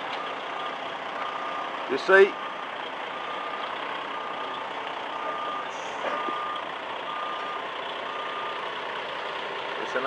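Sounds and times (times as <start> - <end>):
engine running: 0.0 - 10.0
reversing alarm beeping: 0.2 - 8.7.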